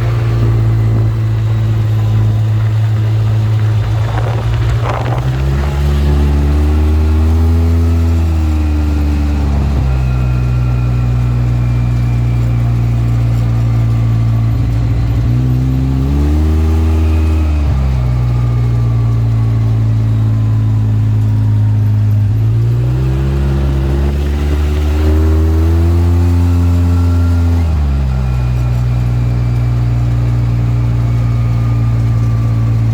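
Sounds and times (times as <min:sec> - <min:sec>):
vehicle engine accelerating: 0:00.0 - 0:32.9.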